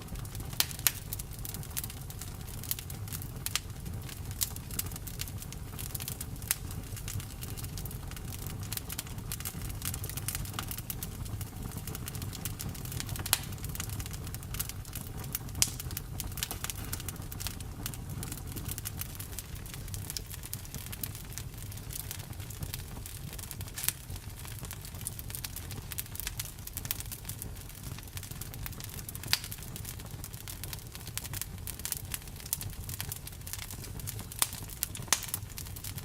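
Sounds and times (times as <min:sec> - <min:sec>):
campfire crackling and popping: 0:00.0 - 0:36.0
low rumble of flames: 0:00.0 - 0:36.0.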